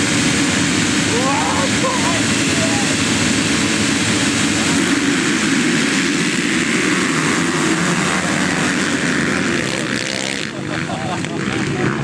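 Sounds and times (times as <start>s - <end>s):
motocross bikes racing past: 0.0s - 12.0s.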